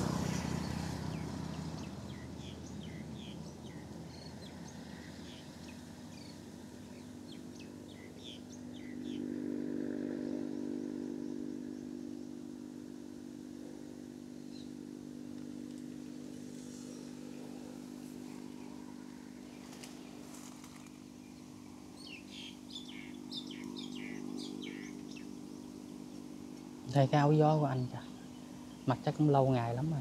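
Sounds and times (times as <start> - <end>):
vehicle passing: 0.0 - 6.8, 7.6 - 30.0
birds chirping: 0.0 - 12.6, 13.9 - 30.0
steady engine hum: 0.0 - 30.0.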